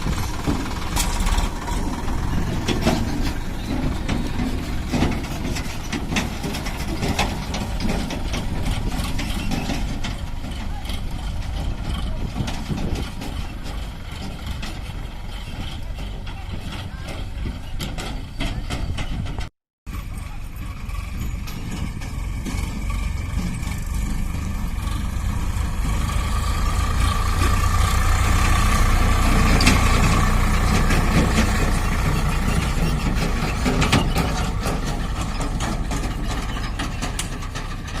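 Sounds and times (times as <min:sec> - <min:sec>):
tractor diesel engine under load: 0:00.0 - 0:38.0
trolley clattering and rattling: 0:00.0 - 0:38.0.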